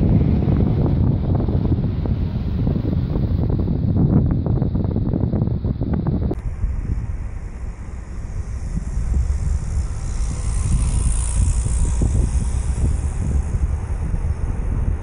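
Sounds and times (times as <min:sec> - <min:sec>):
street traffic: 0:00.0 - 0:15.0
wind buffeting microphone: 0:00.0 - 0:15.0.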